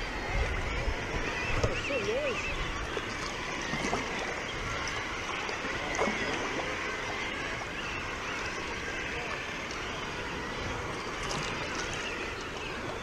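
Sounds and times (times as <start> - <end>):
paddle strokes splashing: 0.0 - 13.0
water wash: 0.0 - 13.0
wind: 0.0 - 13.0.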